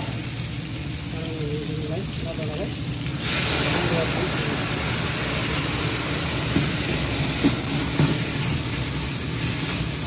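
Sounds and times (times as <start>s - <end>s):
butter sizzling in pot: 0.0s - 10.0s.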